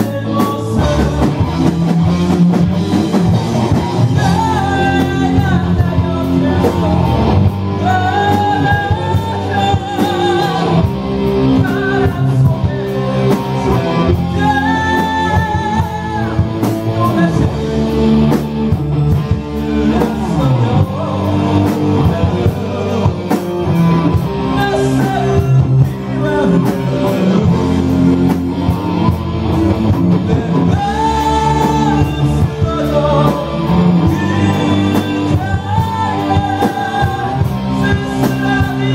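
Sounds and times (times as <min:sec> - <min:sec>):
live rock band playing: 0:00.0 - 0:38.9
man singing: 0:00.0 - 0:38.9.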